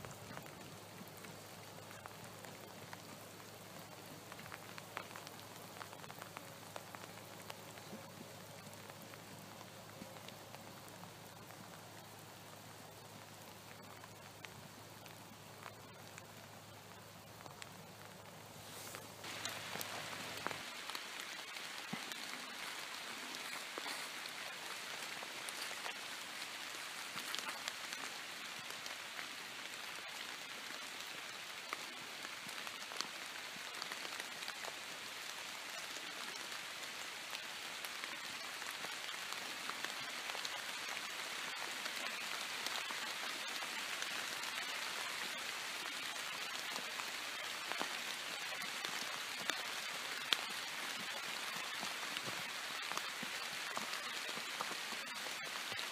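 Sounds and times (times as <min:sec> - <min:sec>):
light rain pattering: 0:00.0 - 0:55.9.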